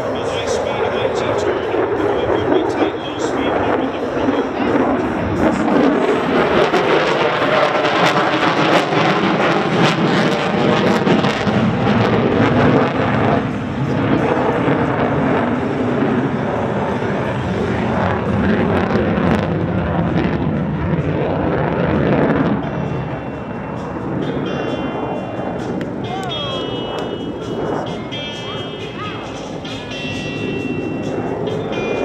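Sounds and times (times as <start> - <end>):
fighter jet roaring overhead: 0.0 - 32.0.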